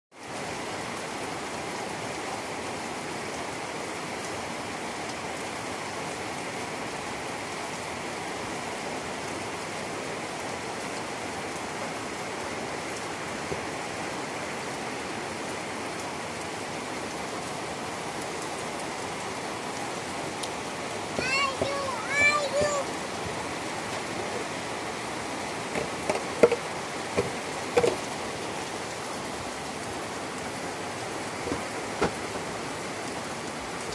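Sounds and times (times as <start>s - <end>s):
heavy rain on trees and grass: 0.1s - 33.9s.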